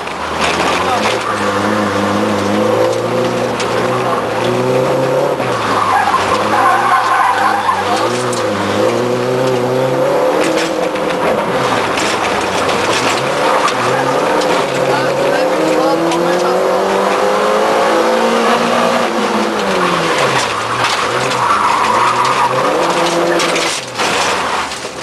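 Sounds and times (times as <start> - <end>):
rally car engine revving: 0.0 - 25.0
tyres squealing: 0.3 - 25.0.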